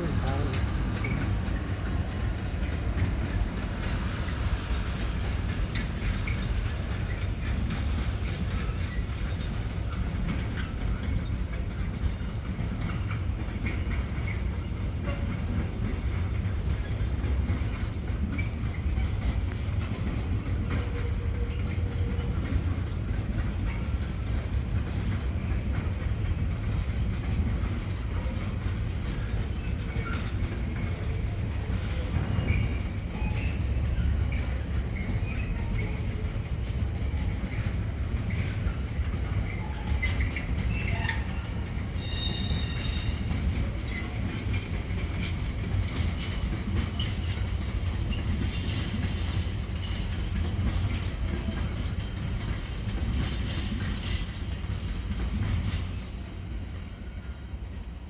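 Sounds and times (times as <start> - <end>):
wheels clattering over rail joints: 0.0 - 57.0
freight train rumbling: 0.0 - 58.0.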